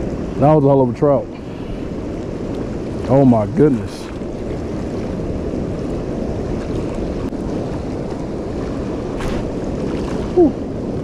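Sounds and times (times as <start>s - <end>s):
water rushing through channel: 0.0s - 11.0s.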